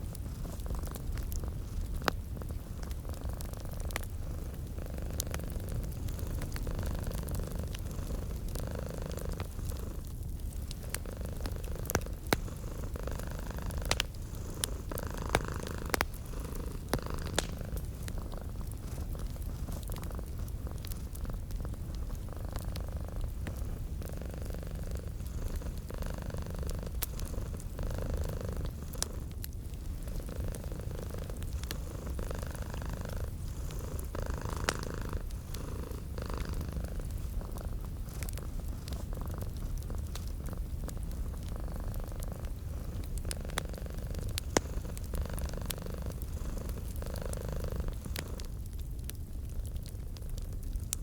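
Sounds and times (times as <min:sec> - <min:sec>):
cat purring: 0:00.0 - 0:49.9
wood fire crackling: 0:00.0 - 0:51.0.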